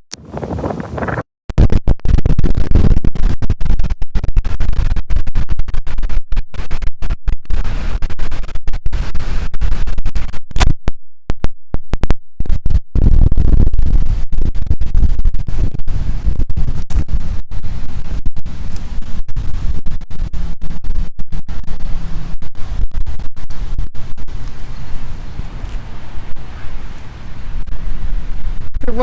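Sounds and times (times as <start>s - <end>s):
wind buffeting microphone: 0.1s - 1.2s, 2.0s - 10.7s, 12.4s - 29.0s.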